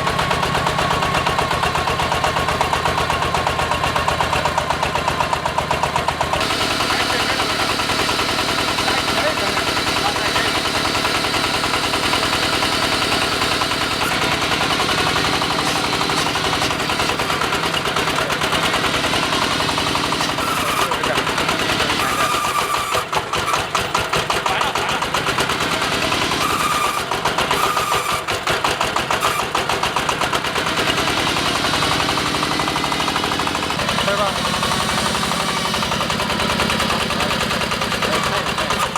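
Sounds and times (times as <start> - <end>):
drilling rig diesel engine pulsing: 0.0 - 38.9.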